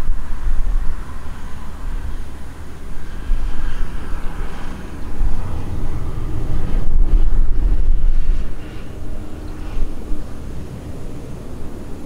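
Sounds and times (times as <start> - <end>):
jet passing low overhead: 0.0 - 12.0.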